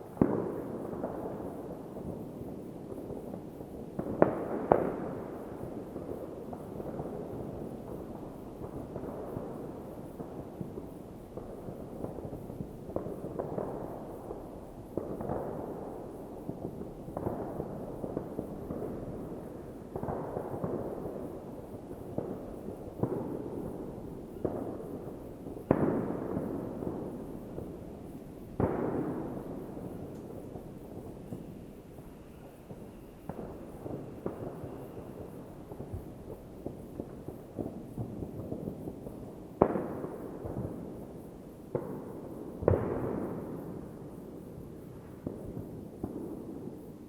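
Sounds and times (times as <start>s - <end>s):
distant fireworks bangs: 0.0s - 47.0s.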